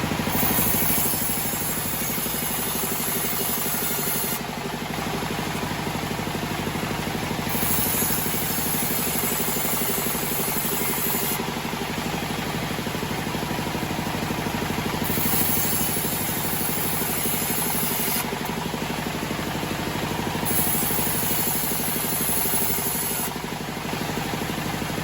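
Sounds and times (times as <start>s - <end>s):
sawmill engine running: 0.0s - 25.0s.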